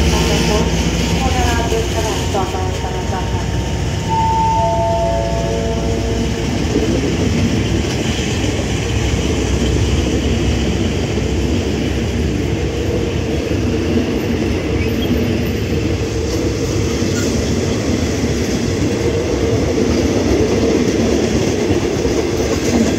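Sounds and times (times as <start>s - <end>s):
train wheels rolling on rails: 0.0s - 22.9s.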